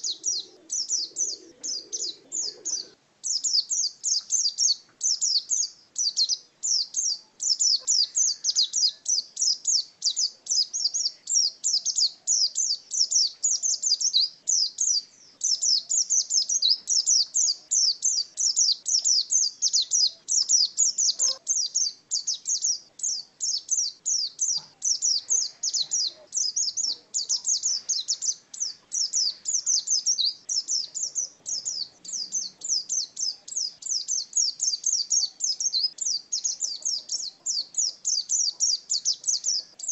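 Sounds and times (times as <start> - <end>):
bird fast high chirping song: 0.0 - 39.9.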